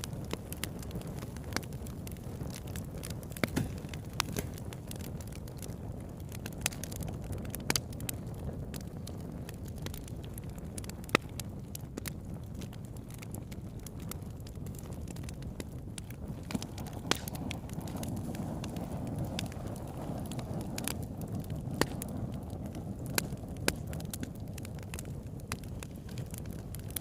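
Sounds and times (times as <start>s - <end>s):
burning wood crackling and popping: 0.0s - 27.0s
low rumble of flames: 0.0s - 27.0s.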